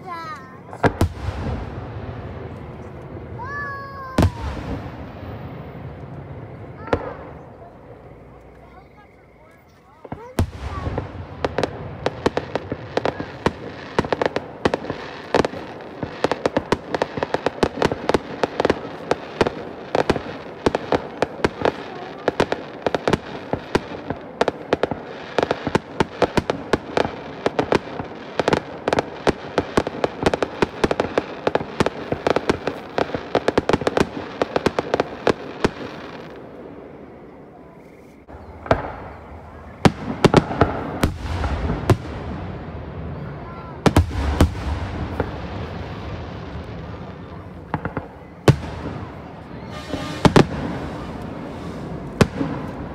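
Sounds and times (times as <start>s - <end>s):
fireworks cracking and popping: 0.0s - 36.6s, 38.0s - 52.9s
fireworks booms: 0.0s - 52.9s.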